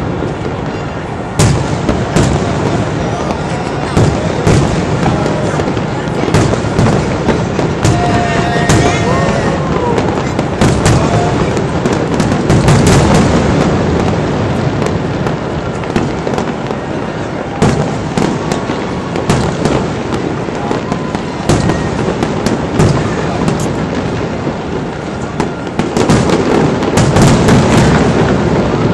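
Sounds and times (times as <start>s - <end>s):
fireworks bangs and crackling pops: 0.0s - 28.9s.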